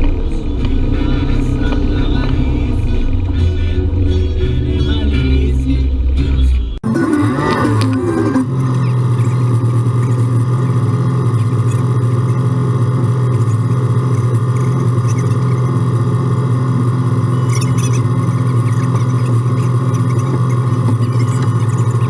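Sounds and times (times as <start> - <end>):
vehicle engine running steadily: 0.0 - 22.0.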